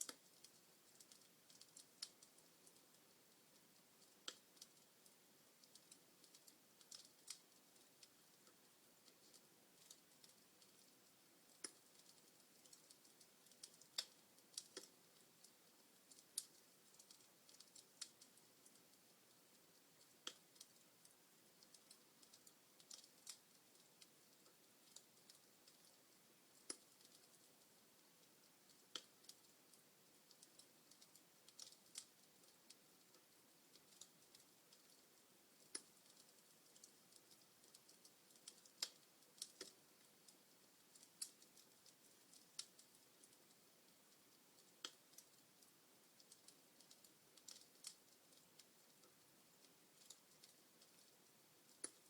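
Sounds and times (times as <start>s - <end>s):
soft hiss: 0.0s - 52.0s
wood fire crackling: 0.0s - 52.0s.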